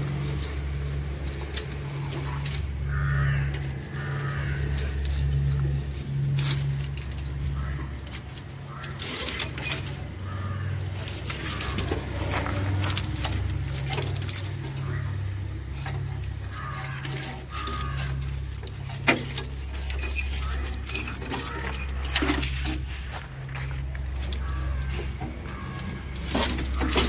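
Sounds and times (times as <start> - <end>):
wires rustling and scraping metal: 0.0 - 27.0.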